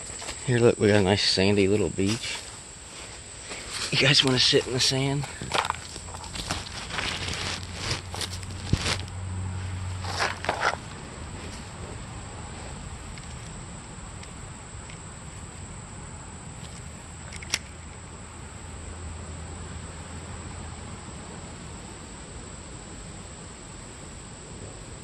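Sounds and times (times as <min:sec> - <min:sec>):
high insect drone: 0:00.0 - 0:25.0
low hiss: 0:00.0 - 0:25.0.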